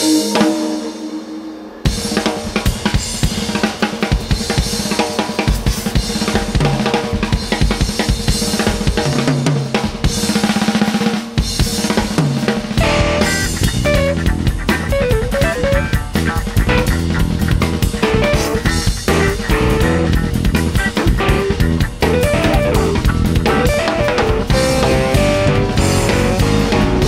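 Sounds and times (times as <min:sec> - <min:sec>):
rock drum beat: 0:00.0 - 0:27.0.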